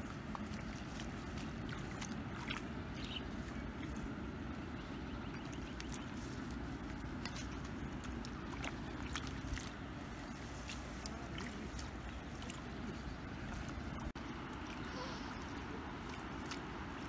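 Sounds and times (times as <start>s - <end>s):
small water splashes: 0.0s - 17.0s
steady low rumble: 0.0s - 17.0s.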